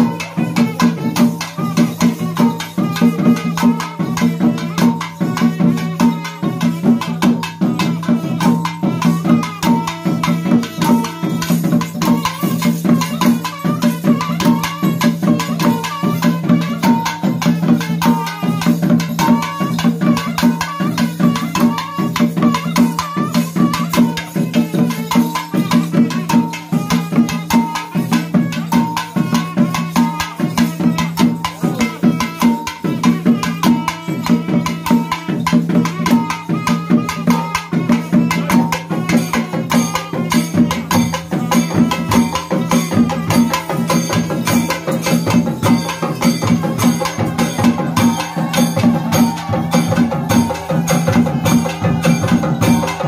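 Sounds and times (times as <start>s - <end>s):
barrel drums playing fast rhythm: 0.0s - 53.0s.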